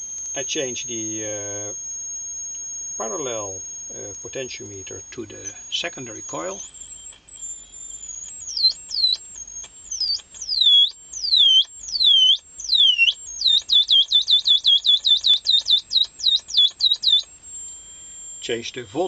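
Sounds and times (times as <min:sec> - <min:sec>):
electronic chirps sweeping downward: 0:00.0 - 0:19.0
steady high electronic whistle: 0:00.0 - 0:19.0.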